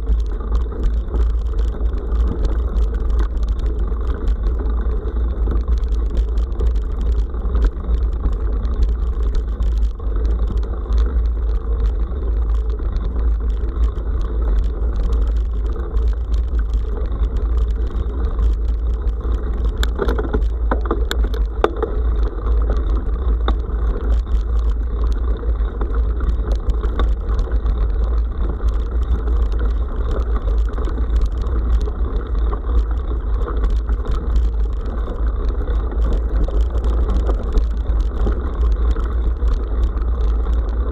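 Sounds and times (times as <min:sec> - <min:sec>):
clicks and rattles: 0:00.0 - 0:40.9
rumble of riding on dirt road: 0:00.0 - 0:40.9.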